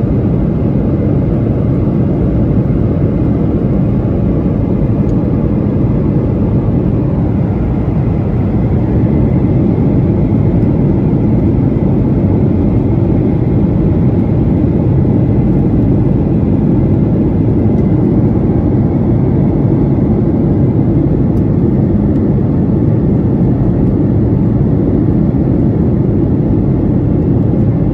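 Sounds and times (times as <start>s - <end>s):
jet airliner cabin drone: 0.0s - 27.9s.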